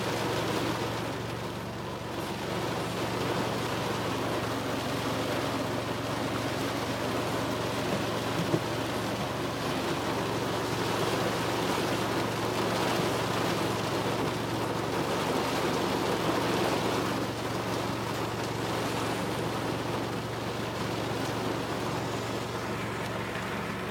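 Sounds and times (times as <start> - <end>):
rain falling steadily: 0.0 - 23.9.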